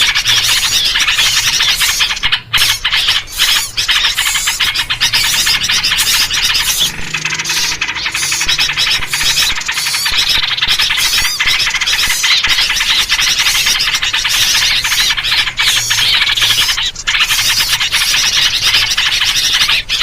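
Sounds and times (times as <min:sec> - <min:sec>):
small birds chattering: 0:00.0 - 0:20.0.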